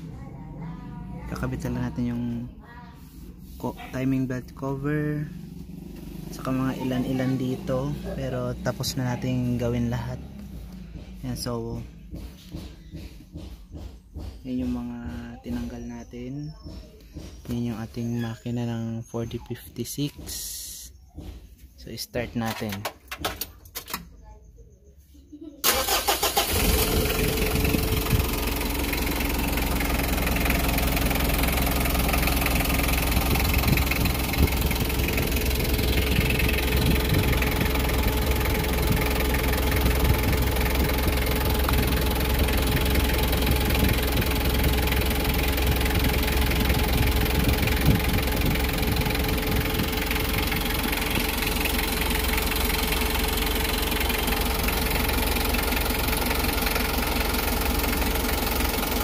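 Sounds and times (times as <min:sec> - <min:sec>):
diesel engine idling: 0:00.0 - 0:21.2, 0:25.6 - 0:59.0.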